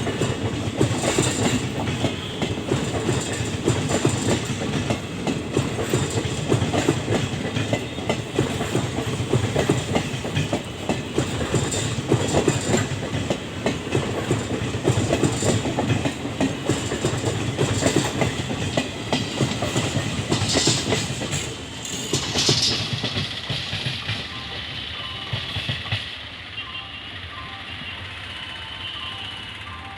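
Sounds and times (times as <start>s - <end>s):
train wheels clattering over rails: 0.0s - 24.5s
low train rumble: 0.0s - 29.9s.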